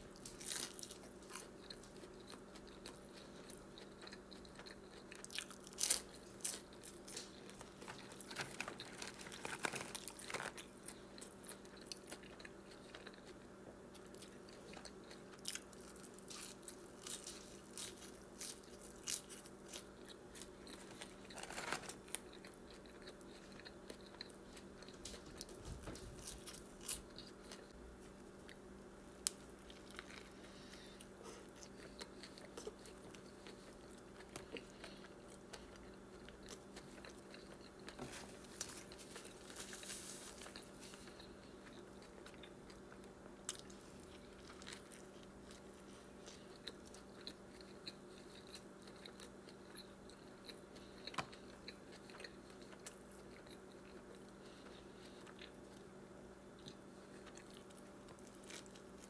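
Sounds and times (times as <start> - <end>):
low steady hum: 0.0 - 59.0
crunchy chewing and biting: 0.1 - 59.0.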